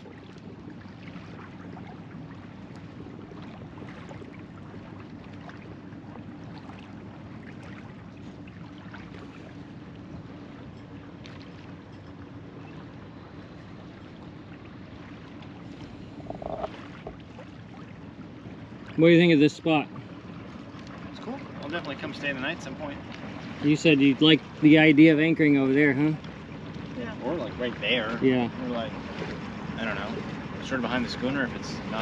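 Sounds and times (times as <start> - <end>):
boat engine drone: 0.0 - 32.0
water washing against hull: 0.0 - 32.0.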